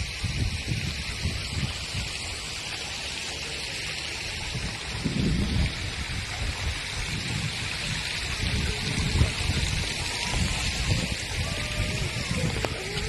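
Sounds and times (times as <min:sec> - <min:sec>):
wind buffeting microphone: 0:00.0 - 0:02.5, 0:04.2 - 0:13.0
outdoor hiss: 0:00.0 - 0:13.0.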